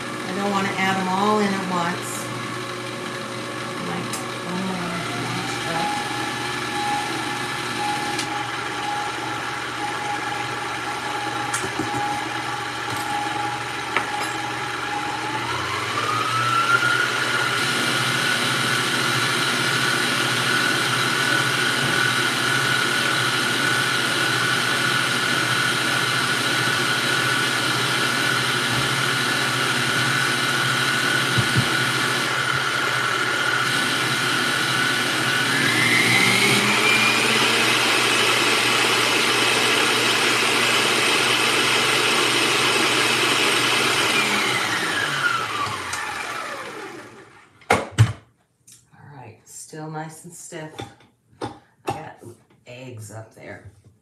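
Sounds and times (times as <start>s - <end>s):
stand mixer motor whirring: 0.0s - 47.6s.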